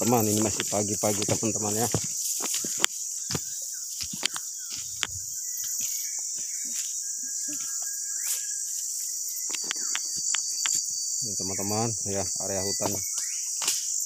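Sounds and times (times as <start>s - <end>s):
cricket chorus: 0.0s - 14.0s.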